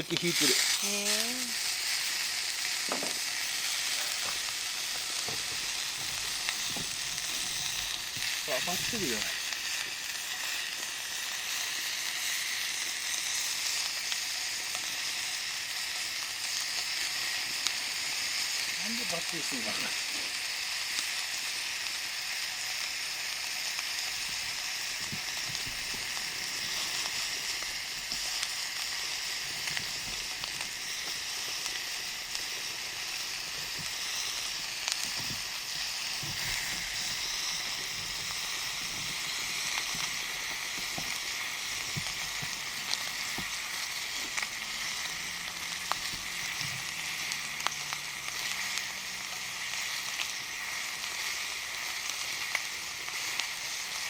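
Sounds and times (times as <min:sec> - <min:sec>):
meat sizzling in a skillet: 0:00.0 - 0:54.0.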